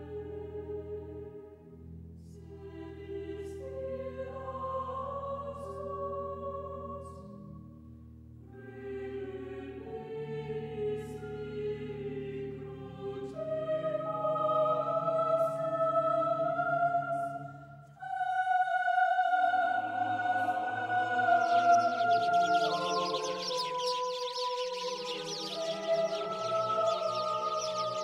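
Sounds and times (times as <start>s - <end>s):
choir singing long notes: 0.0s - 1.6s, 2.3s - 7.5s, 8.5s - 28.0s.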